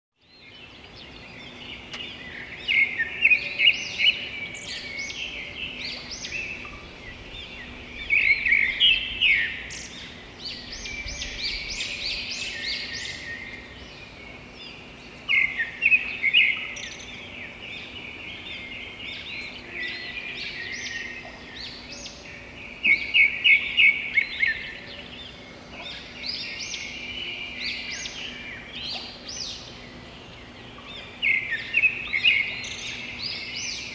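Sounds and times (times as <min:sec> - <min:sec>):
songbirds chirping and singing: 0:00.2 - 0:33.9.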